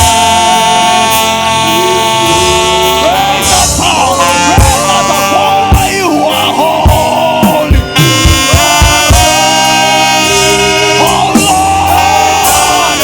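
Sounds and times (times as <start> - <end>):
keyboard chords: 0.0 - 13.0
saxophone melody: 0.0 - 13.0.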